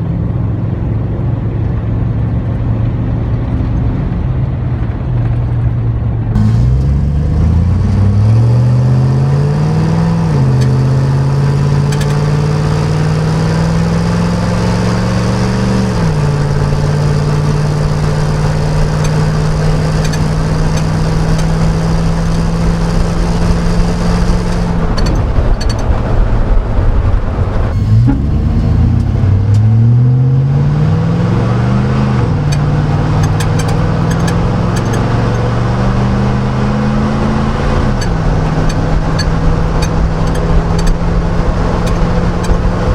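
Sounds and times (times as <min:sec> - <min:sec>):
truck engine accelerating: 0:00.0 - 0:42.9.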